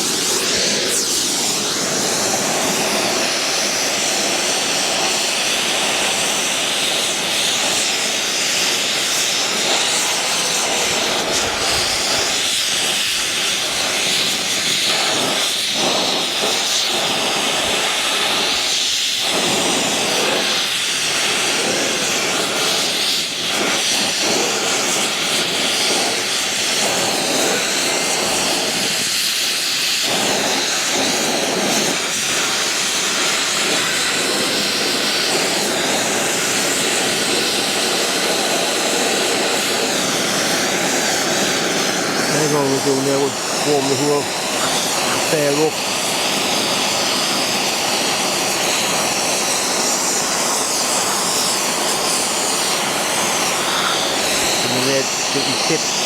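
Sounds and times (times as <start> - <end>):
gas torch roaring: 0.0 - 56.0.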